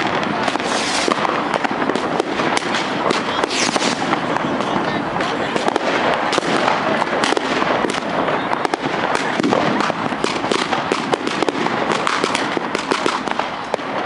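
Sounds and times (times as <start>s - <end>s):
fireworks and firecrackers crackling: 0.0s - 14.0s.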